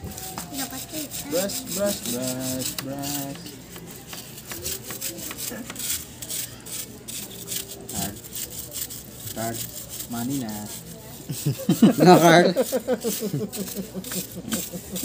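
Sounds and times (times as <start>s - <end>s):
metal strip scraping in radiator: 0.5s - 15.0s.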